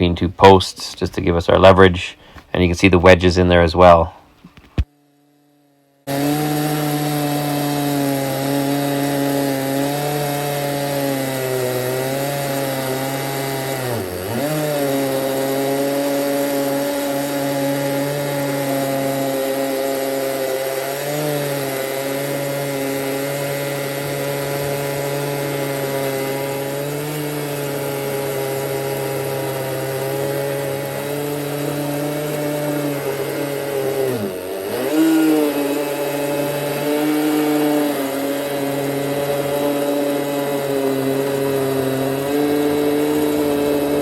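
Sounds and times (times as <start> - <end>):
chainsaw cutting wood: 4.6 - 44.0.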